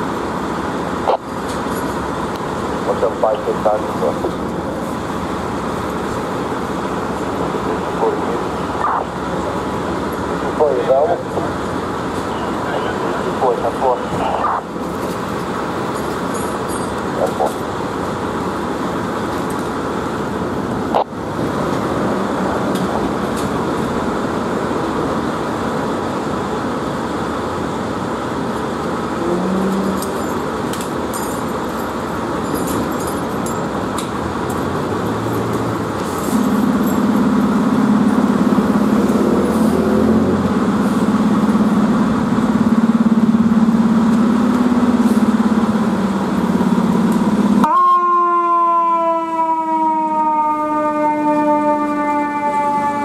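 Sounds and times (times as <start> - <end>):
diesel engines idling: 0.0 - 47.8
low engine drone: 0.0 - 53.0
street traffic: 0.0 - 53.0.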